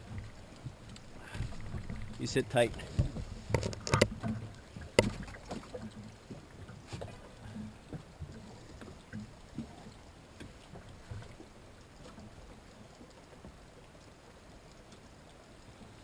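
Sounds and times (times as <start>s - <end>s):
water lapping against boat hull: 0.0s - 16.0s.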